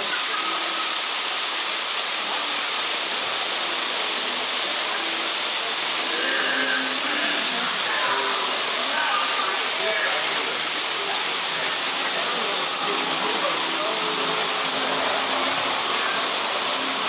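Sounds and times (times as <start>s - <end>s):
rushing and falling water: 0.0s - 17.0s.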